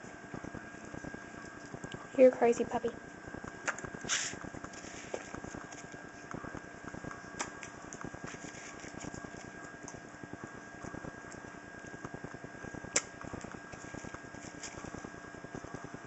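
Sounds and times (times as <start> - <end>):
thin steady hum: 0.0 - 16.0.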